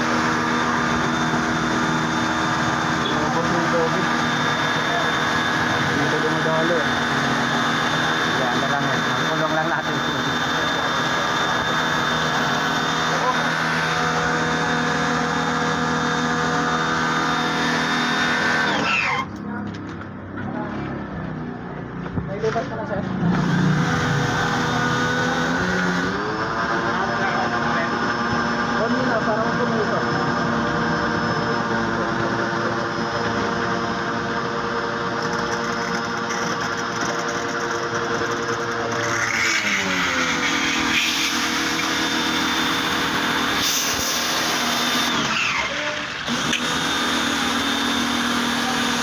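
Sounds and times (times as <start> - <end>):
pump humming and whining: 0.0 - 49.0.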